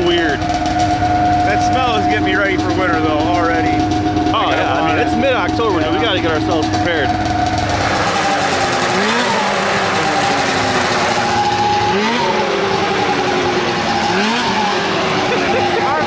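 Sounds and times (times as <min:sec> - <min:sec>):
snowmobile engine idling: 0:00.0 - 0:16.0
snowmobile throttle blips: 0:00.0 - 0:16.0.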